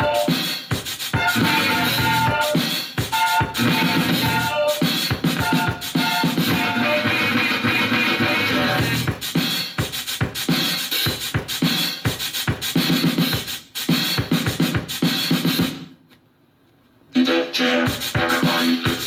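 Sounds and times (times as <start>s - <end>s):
hip-hop music with scratching: 0.0s - 15.9s, 17.1s - 19.0s.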